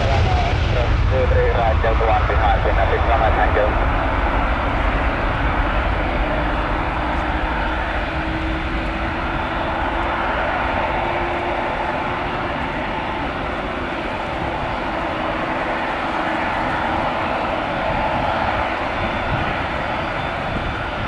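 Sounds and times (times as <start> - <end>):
airliner jet engines rushing: 0.0 - 21.0.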